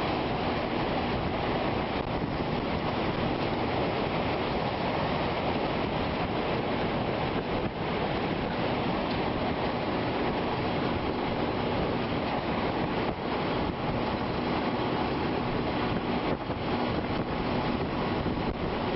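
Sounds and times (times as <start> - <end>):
storm wind on microphone: 0.0 - 18.9.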